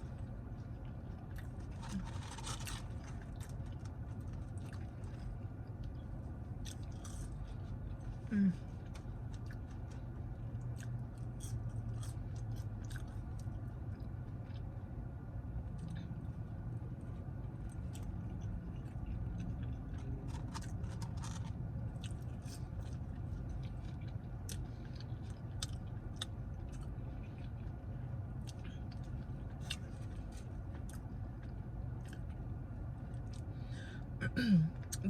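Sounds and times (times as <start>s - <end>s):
chewing with wet mouth sounds: 0.0s - 33.7s
steady low hum: 0.0s - 35.0s.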